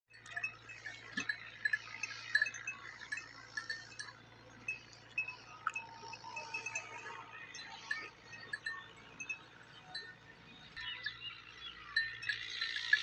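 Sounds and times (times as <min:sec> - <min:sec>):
livestock bells tinkling: 0:00.1 - 0:13.0.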